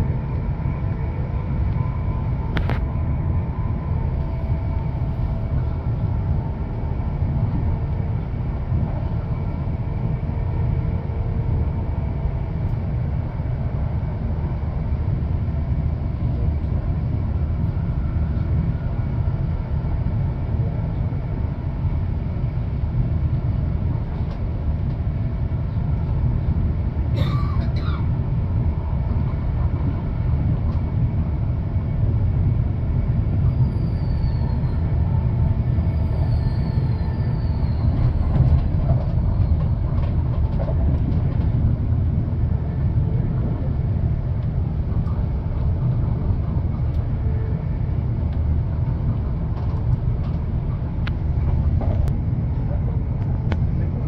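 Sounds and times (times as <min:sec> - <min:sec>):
train rumble from inside carriage: 0:00.0 - 0:54.0.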